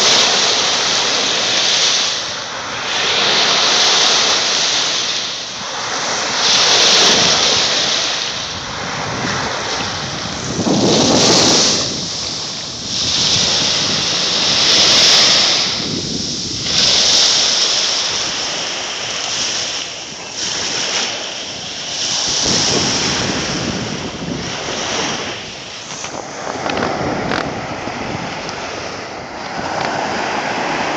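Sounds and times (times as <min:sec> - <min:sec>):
waves washing up a sandy beach: 0:00.0 - 0:30.9.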